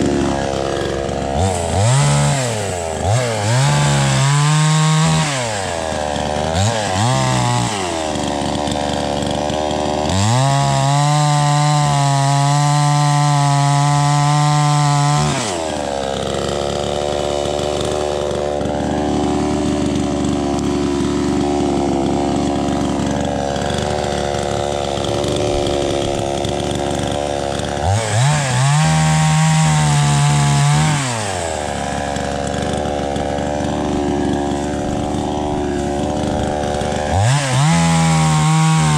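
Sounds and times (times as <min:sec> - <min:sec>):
chainsaw cutting limbs: 0:00.0 - 0:38.9.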